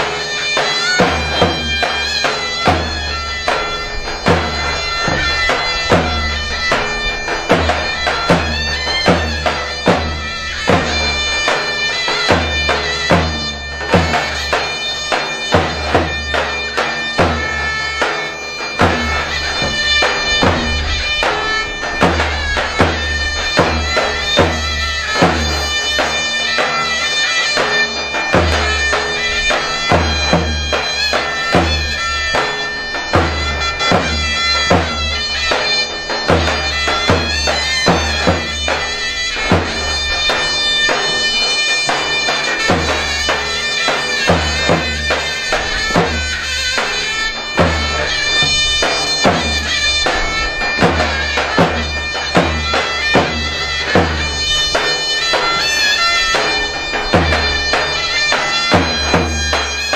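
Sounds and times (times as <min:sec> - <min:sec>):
heavy drum strokes: 0:00.0 - 0:59.9
shrill double-reed pipe: 0:00.0 - 0:59.9.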